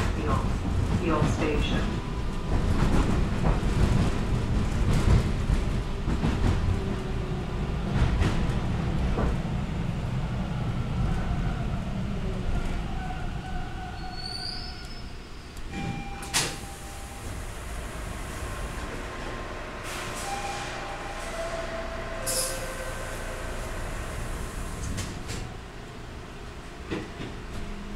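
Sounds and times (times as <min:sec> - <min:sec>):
train wheel rumble on rails: 0:00.0 - 0:27.9.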